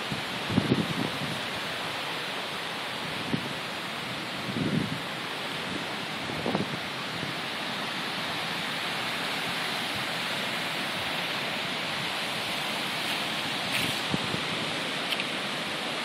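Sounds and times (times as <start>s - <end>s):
creek rushing: 0.0s - 16.0s.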